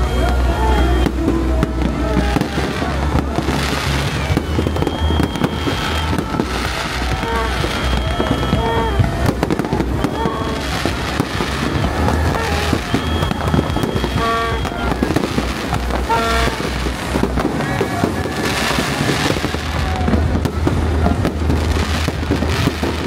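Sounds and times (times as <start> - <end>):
fireworks crackling: 0.0 - 23.0
low rumble: 0.0 - 23.0.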